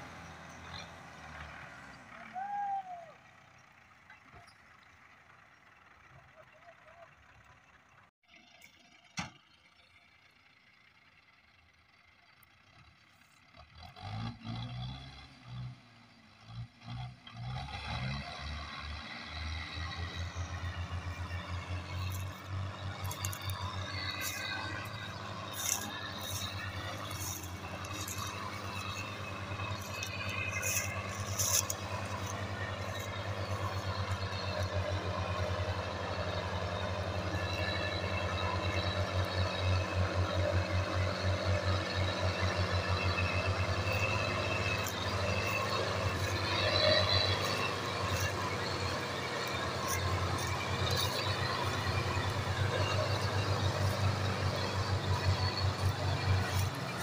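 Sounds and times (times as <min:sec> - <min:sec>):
tractor diesel engines chugging: 0:00.0 - 0:57.0.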